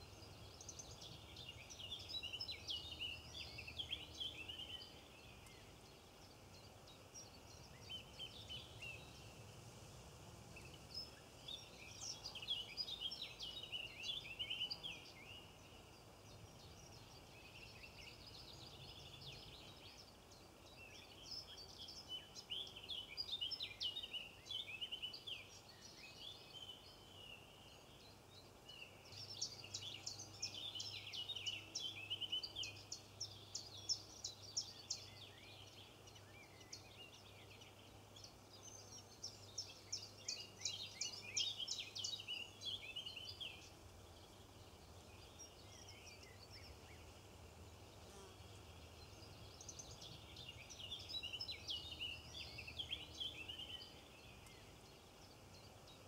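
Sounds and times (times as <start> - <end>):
songbirds twittering: 0.0 - 56.0.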